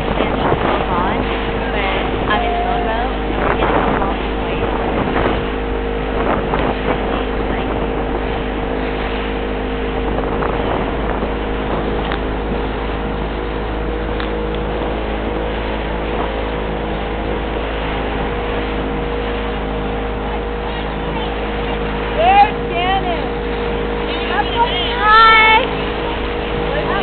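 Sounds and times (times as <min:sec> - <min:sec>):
motorboat engine running: 0:00.0 - 0:27.0
water noise: 0:00.0 - 0:27.0
wind noise: 0:00.0 - 0:27.0.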